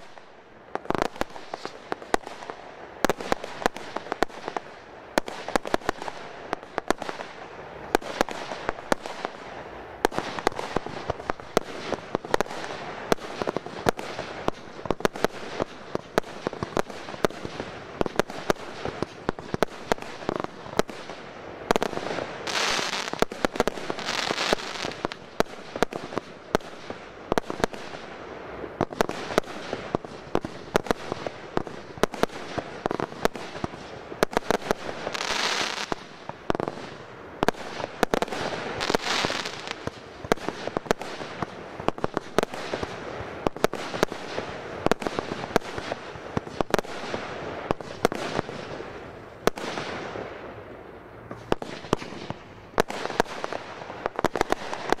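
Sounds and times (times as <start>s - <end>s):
firework hissing crackle: 0.0s - 55.0s
fireworks banging: 0.0s - 55.0s.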